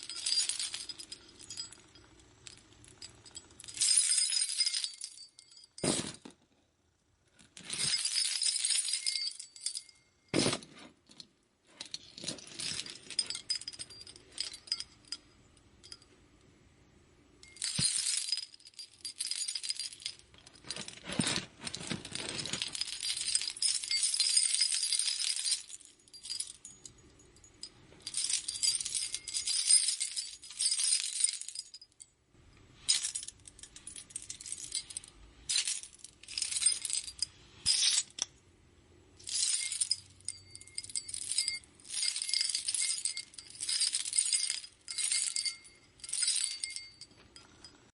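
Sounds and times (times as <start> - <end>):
jewelry jingling: 0.0 - 6.3, 7.4 - 16.2, 17.4 - 38.4, 39.0 - 47.9.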